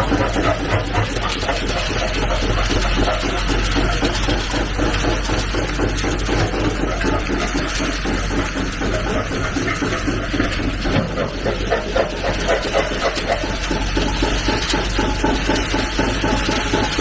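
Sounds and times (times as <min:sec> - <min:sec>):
rock crusher crunching rock: 0:00.0 - 0:17.0
tractor engine running: 0:00.0 - 0:17.0.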